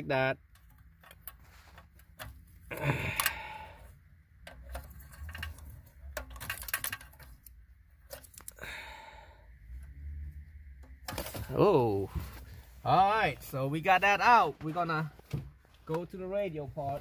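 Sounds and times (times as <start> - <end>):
plugs and wires rustling: 0.4 - 8.6, 9.7 - 13.7, 14.5 - 17.0.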